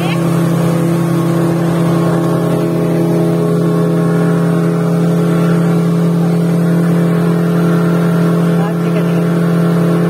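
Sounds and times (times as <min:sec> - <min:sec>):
outboard motor running: 0:00.0 - 0:10.0
water rushing along hull: 0:00.0 - 0:10.0.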